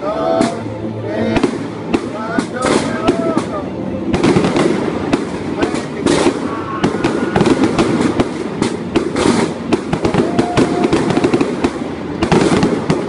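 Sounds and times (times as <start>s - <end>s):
fireworks bangs and crackling: 1.2s - 13.0s.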